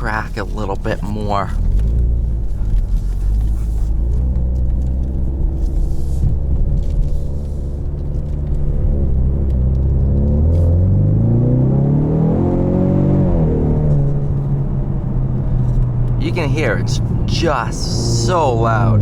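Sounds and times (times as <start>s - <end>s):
car engine through exhaust: 0.0s - 19.0s.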